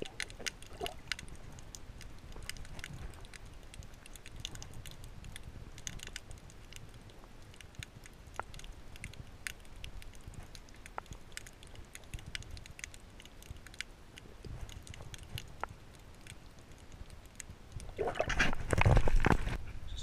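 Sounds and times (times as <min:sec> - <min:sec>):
underwater clicks: 0:00.0 - 0:19.5.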